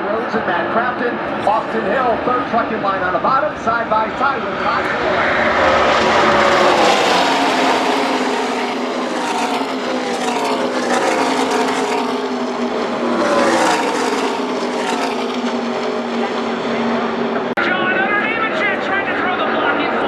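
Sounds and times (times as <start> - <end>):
race trucks passing at speed: 0.0 - 17.6.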